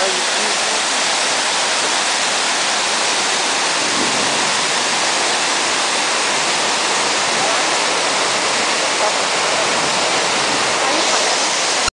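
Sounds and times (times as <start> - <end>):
waterfall rushing over rock: 0.0 - 11.9.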